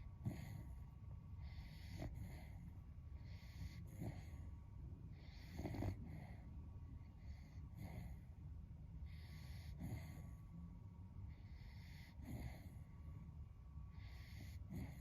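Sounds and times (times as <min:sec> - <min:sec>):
dog snoring: 0:00.0 - 0:08.4, 0:09.0 - 0:10.5, 0:11.3 - 0:13.2, 0:13.9 - 0:15.0.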